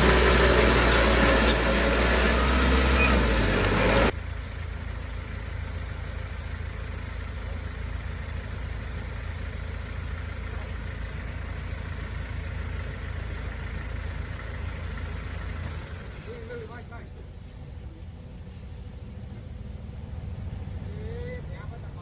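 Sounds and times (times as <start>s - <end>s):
heavy machine engine rumbling: 0.0s - 22.0s.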